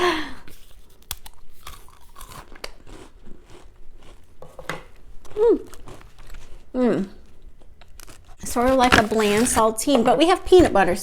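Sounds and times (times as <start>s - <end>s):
chewing crunchy cracker: 0.8s - 9.6s.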